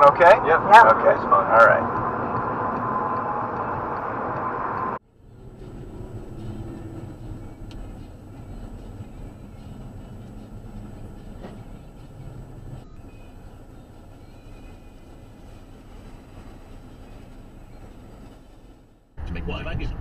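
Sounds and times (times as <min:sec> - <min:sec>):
in-car road and wind noise: 0:00.0 - 0:20.0
low rumble of slow car: 0:00.0 - 0:20.0.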